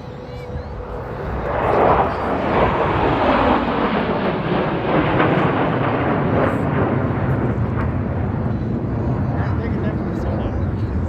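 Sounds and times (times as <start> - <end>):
jet roar flying past: 0.0 - 11.0.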